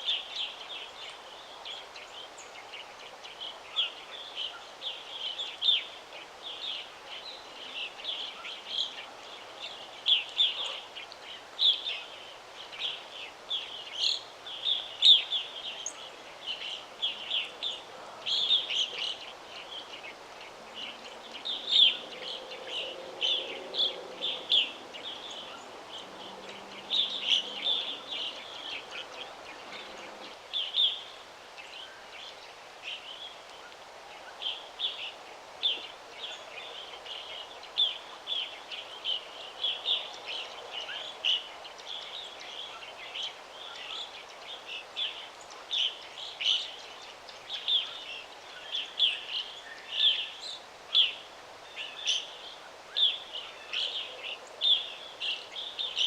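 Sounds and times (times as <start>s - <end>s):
soft steady background hiss: 0.0s - 56.0s
songbirds chirping: 0.0s - 56.0s.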